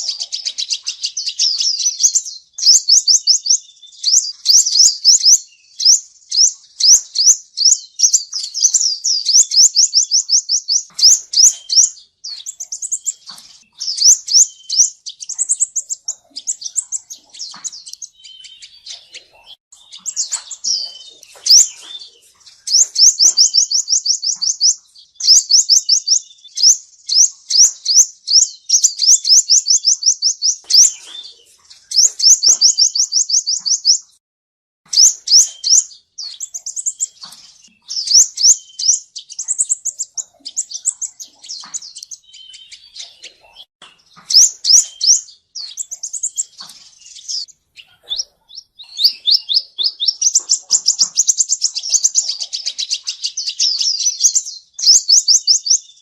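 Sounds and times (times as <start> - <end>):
sunbird singing high trills: 0.0 - 34.2, 34.9 - 56.0.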